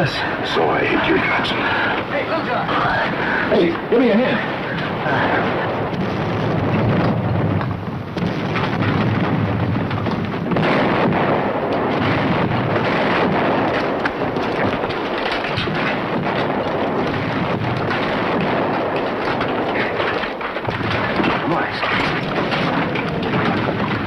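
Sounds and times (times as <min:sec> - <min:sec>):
heavy rain: 0:00.0 - 0:24.0
low thunder-like rumble: 0:00.0 - 0:24.0.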